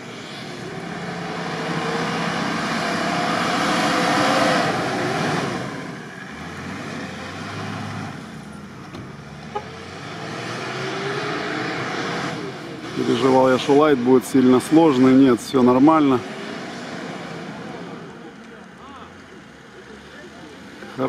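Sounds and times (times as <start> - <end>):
engine revving hard: 0.0 - 8.4, 9.4 - 18.1.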